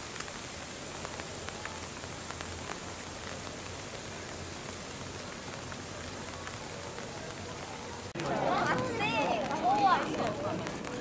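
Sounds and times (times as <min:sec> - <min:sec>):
rain on leaves: 0:00.0 - 0:11.0.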